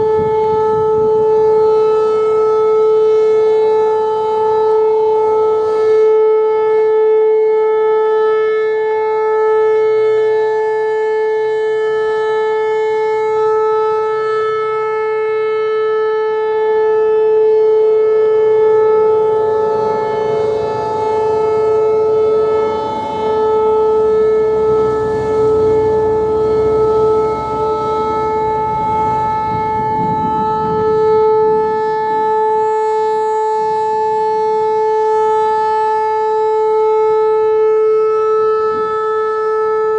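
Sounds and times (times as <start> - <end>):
rotating storm siren: 0.0 - 39.9.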